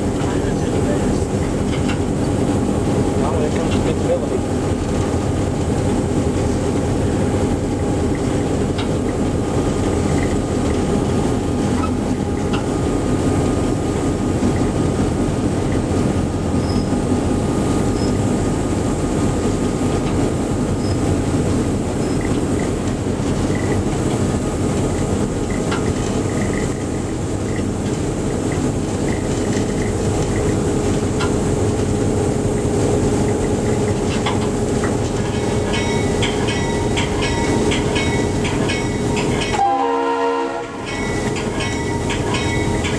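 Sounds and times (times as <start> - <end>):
diesel locomotive running: 0.0 - 42.9
rail clicks: 0.0 - 42.9
train wheels rumbling on rail: 0.0 - 42.9.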